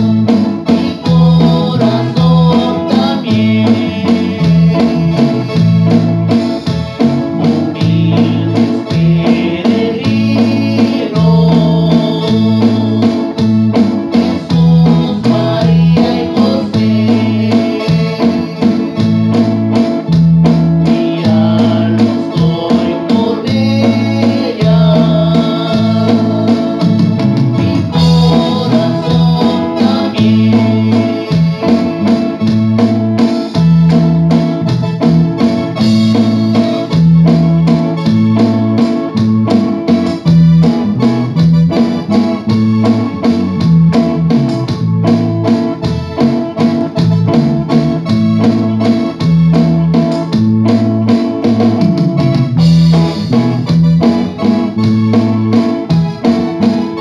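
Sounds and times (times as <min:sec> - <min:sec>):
electric bass line: 0:00.0 - 0:57.0
organ keyboard: 0:00.0 - 0:57.0
steady drum beat: 0:00.0 - 0:57.0.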